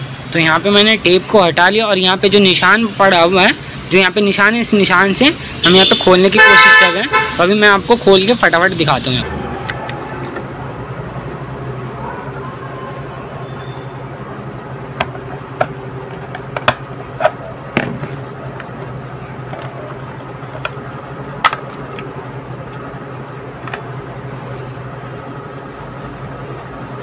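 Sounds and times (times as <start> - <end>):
steady background hum: 0.0 - 27.0.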